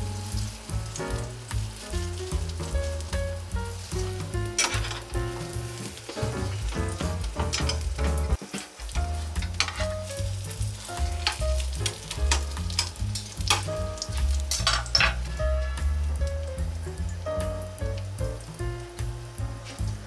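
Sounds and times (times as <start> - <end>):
background music with bass line: 0.0 - 8.4, 9.0 - 20.0
egg sizzling in a pan: 0.0 - 20.0.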